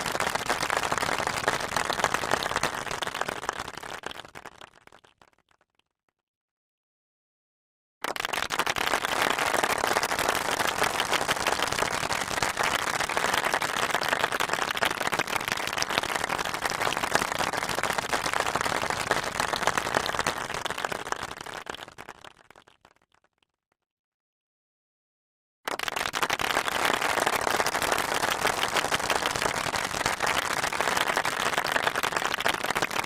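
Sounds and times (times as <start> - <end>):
audience applauding: 0.0 - 4.9, 8.0 - 22.6, 25.7 - 33.0.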